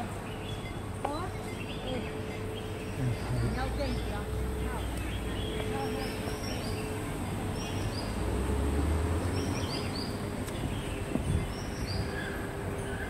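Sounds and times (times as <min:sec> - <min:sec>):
city traffic rumble: 0:00.0 - 0:13.0
small birds chirping: 0:00.0 - 0:13.0.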